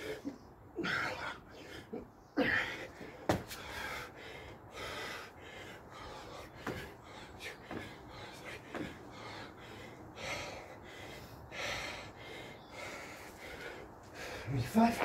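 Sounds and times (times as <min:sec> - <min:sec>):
man breathing heavily: 0:00.0 - 0:14.9.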